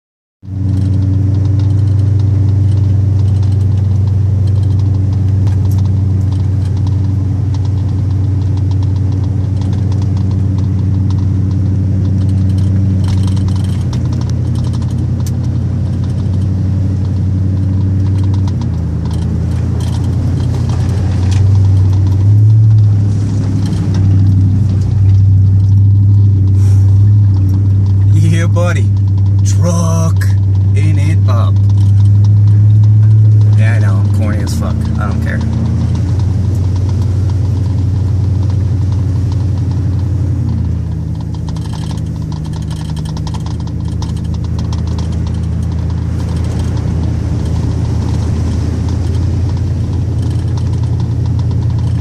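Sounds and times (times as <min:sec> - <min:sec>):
vehicle engine low hum: 0:00.4 - 0:52.0.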